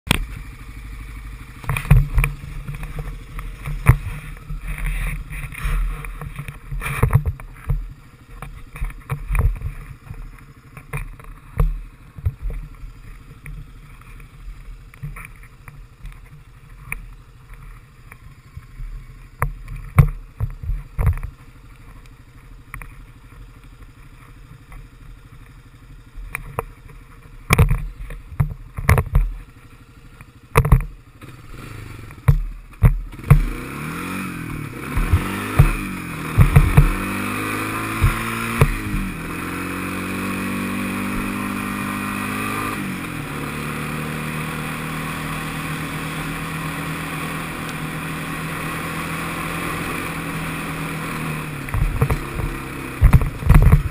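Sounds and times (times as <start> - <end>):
atv engine idling: 0.1 - 53.9.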